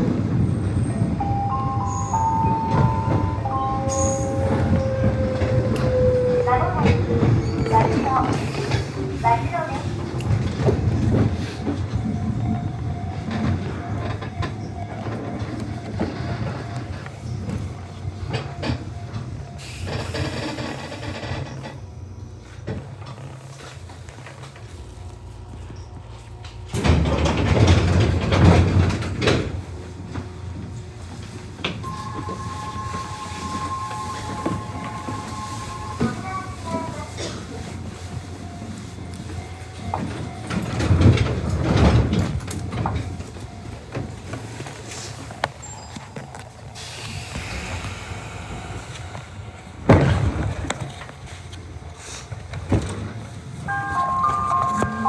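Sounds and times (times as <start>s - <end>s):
train car low hum: 0.0s - 55.0s
train doors closing: 0.0s - 55.0s.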